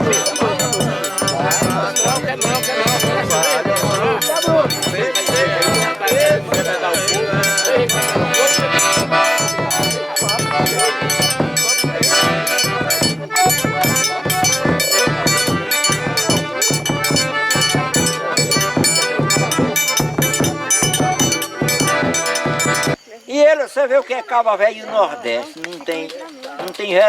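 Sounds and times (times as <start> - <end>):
accordion playing: 0.0 - 23.0
low drum thumps: 0.0 - 23.0.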